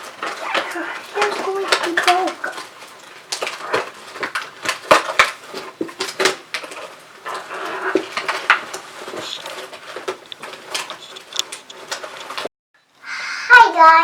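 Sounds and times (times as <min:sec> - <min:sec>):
small hard objects clicking: 0:00.0 - 0:12.5.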